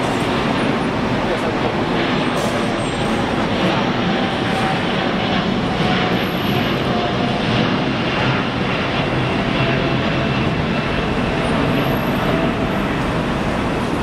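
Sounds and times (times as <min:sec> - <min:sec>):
jet engine noise with whine: 0:00.0 - 0:14.0.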